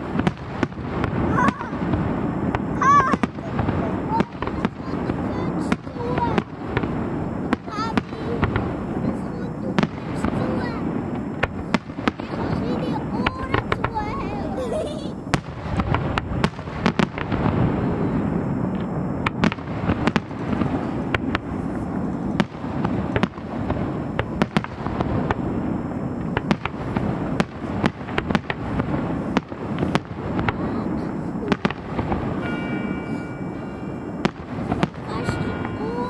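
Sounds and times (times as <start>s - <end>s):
fireworks rumble: 0.0s - 36.0s
sharp firework bangs: 0.0s - 36.0s.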